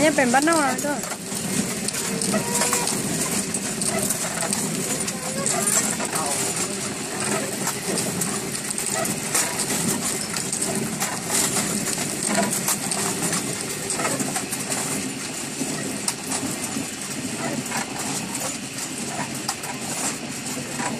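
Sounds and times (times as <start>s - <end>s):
corn kernels crackling: 0.0s - 17.7s
stone mill grinding: 0.0s - 20.9s.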